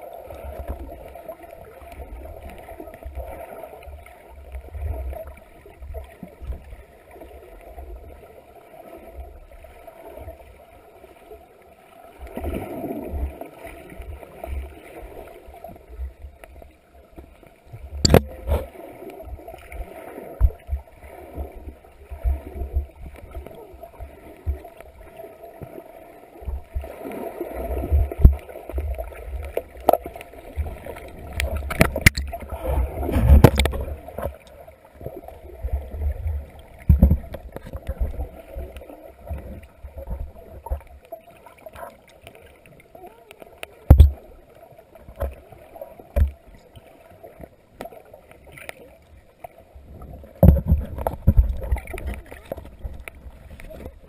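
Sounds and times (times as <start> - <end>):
underwater rumbling and gurgling: 0.0 - 54.0.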